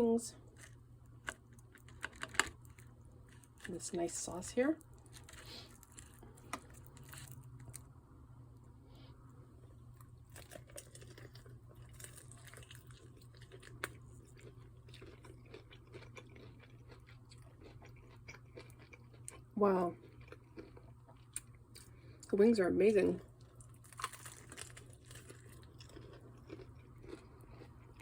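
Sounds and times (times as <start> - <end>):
chewing crispy chicken: 0.4 - 8.0, 9.7 - 22.3, 23.1 - 28.0.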